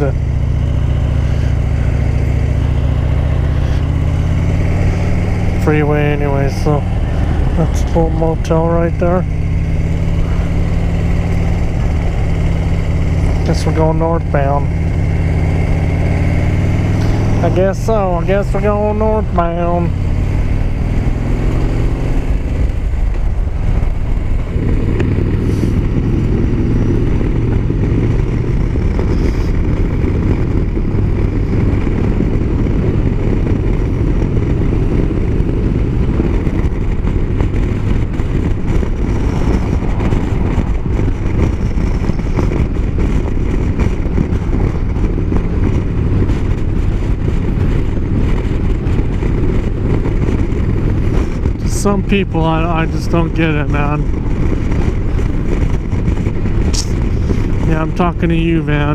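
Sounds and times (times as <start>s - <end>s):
motorcycle engine: 0.0s - 58.9s
road noise: 0.0s - 58.9s
wind buffeting microphone: 0.0s - 58.9s.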